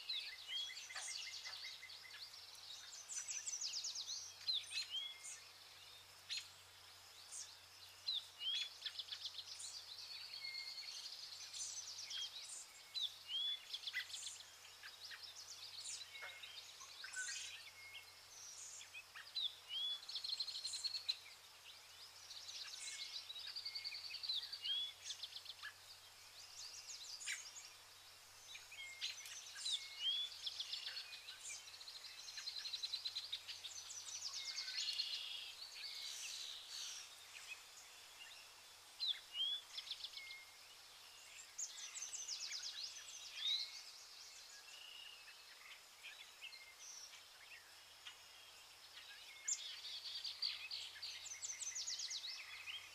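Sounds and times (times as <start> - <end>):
birds chirping and trilling: 0.0 - 52.9
faint background hiss: 0.0 - 52.9.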